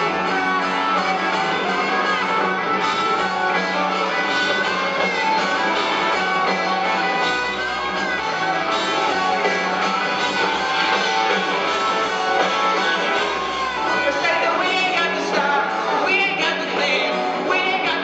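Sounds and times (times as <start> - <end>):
drums: 0.0 - 18.0
electric guitars: 0.0 - 18.0.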